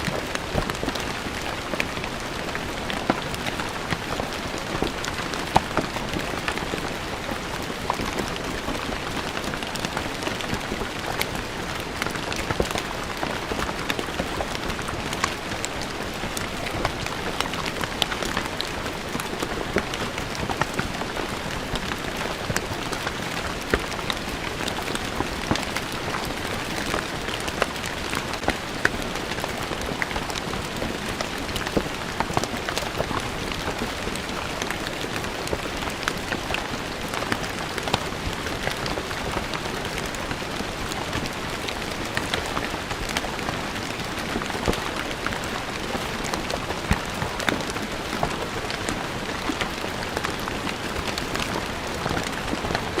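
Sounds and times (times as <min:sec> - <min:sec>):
rain on stone paving: 0:00.0 - 0:53.0.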